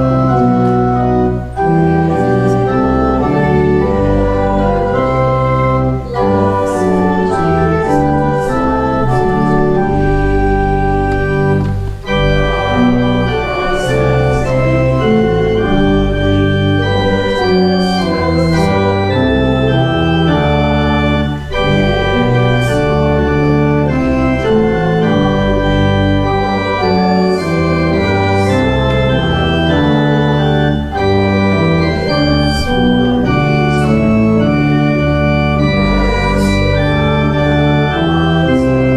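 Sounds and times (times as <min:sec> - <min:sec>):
church organ playing full chords: 0:00.0 - 0:38.9.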